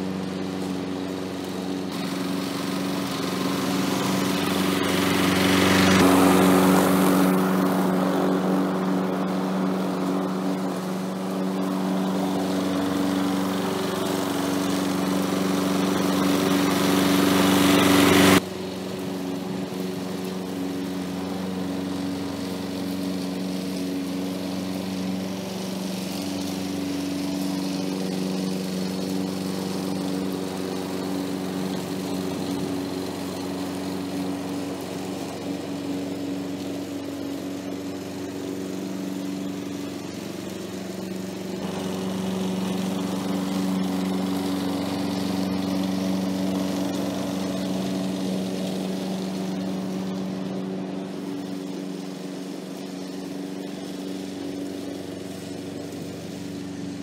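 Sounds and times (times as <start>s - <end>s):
hiss: 0.0s - 57.0s
lawn mower engine running: 0.0s - 57.0s.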